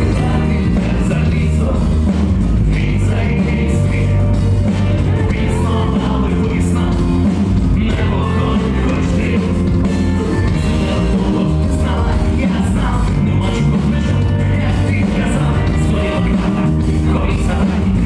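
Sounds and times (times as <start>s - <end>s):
bass guitar: 0.0s - 18.0s
drums: 0.0s - 18.0s
electric guitar: 0.0s - 18.0s
male vocalist singing: 0.0s - 18.0s.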